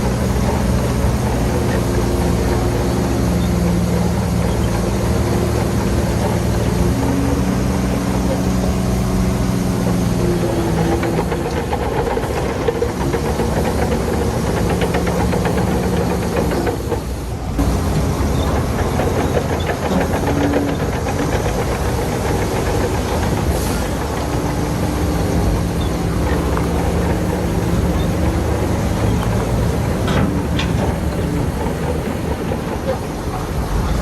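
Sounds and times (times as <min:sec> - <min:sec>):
bulldozer diesel engine running: 0:00.0 - 0:34.0
steel tracks clanking: 0:00.0 - 0:34.0.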